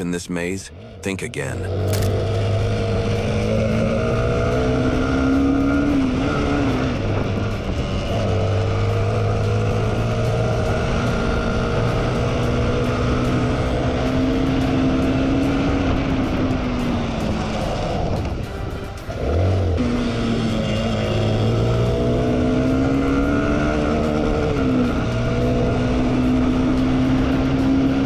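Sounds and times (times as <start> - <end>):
motorcycle engine running hard: 1.8 - 28.0.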